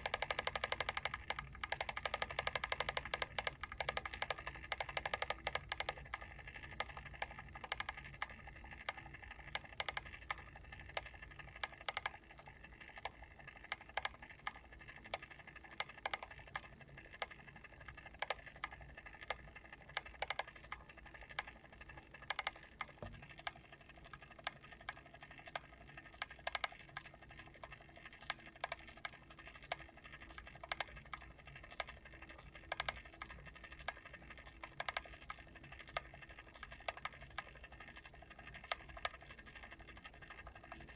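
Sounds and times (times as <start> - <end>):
mechanical timer switch clicking: 0.0 - 12.2, 12.8 - 27.1, 27.7 - 40.9
steady hum: 0.0 - 40.9.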